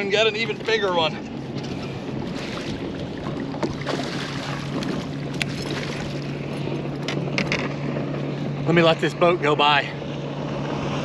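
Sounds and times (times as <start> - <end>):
boat motor humming: 0.0 - 11.0
water noise: 0.0 - 11.0
wind: 0.0 - 11.0.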